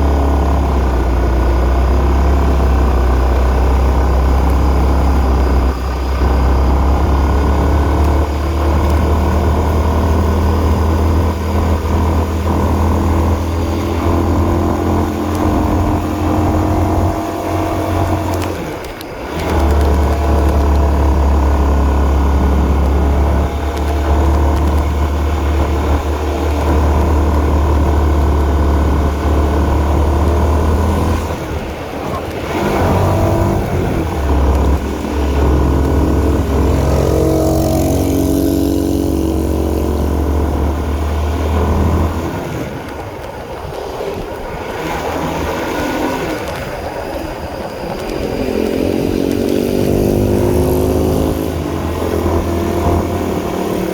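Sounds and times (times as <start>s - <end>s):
heavy low rumble: 0.0s - 53.5s
motorcycle engine running: 0.0s - 53.9s.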